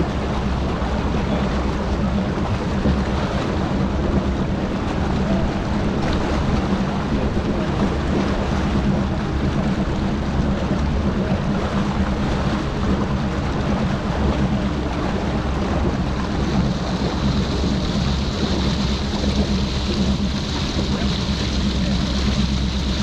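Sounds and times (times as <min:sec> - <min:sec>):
outboard motor running: 0:00.0 - 0:23.0
water rushing: 0:00.0 - 0:23.0
wind on microphone: 0:00.0 - 0:23.0.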